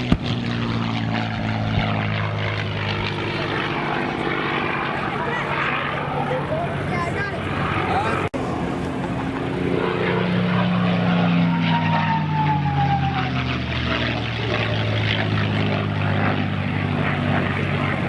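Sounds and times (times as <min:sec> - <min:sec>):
propeller aircraft engine passing: 0:00.0 - 0:18.0.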